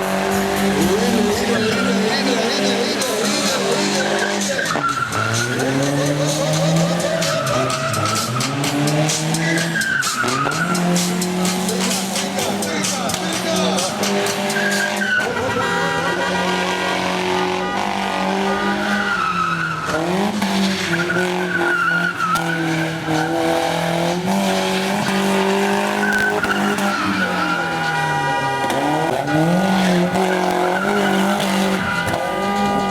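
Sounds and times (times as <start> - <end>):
engine revving at high revs: 0.0 - 32.9.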